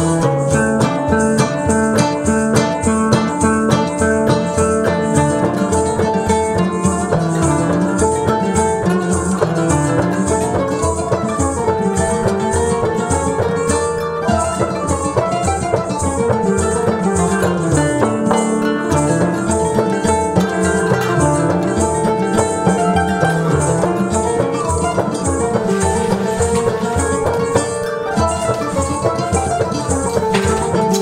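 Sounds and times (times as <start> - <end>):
percussion beat: 0.0 - 31.0
plucked strings: 0.0 - 31.0.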